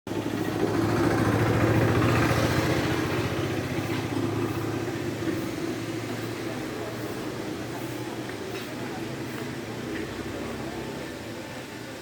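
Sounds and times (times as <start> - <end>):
vehicle engine idling: 0.1 - 12.0.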